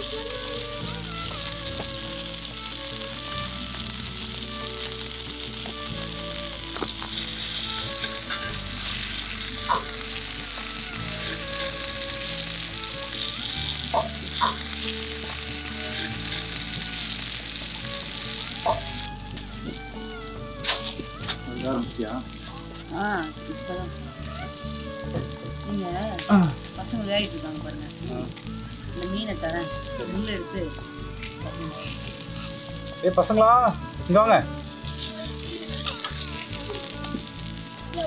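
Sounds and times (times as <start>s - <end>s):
fish sizzling in oil: 0.0s - 38.0s.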